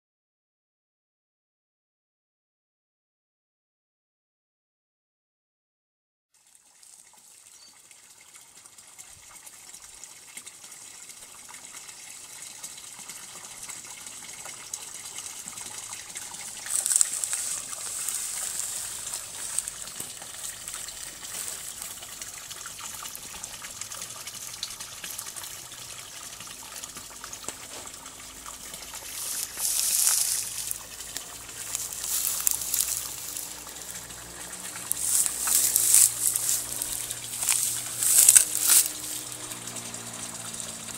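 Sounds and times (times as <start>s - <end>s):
water gushing into pond: 6.3s - 40.9s.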